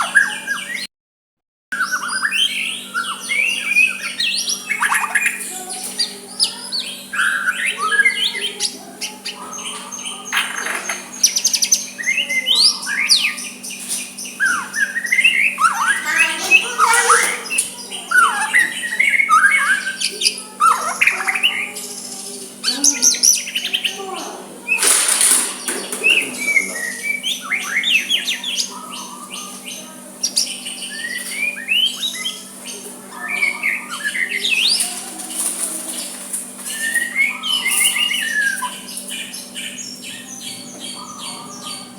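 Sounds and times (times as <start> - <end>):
bird singing whistled phrases: 1.8 - 10.4, 11.2 - 24.0, 25.9 - 34.8, 36.6 - 41.9.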